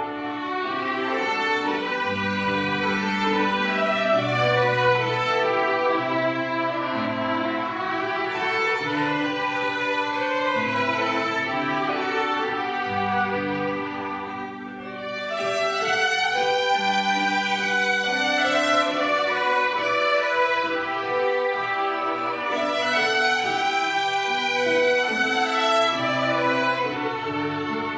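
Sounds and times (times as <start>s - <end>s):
string ensemble playing: 0.0s - 27.9s.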